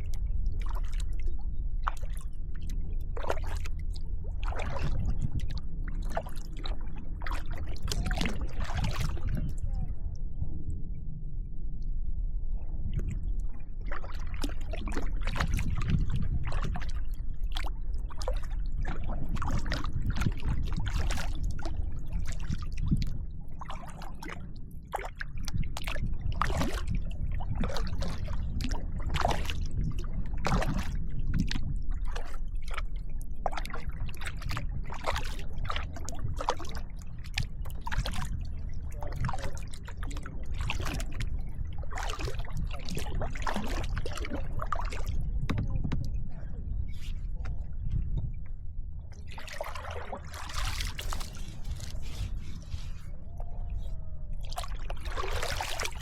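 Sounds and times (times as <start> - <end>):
low rumble: 0.0 - 56.0
kayak paddle splashing: 1.8 - 9.5, 13.8 - 46.1, 49.1 - 56.0.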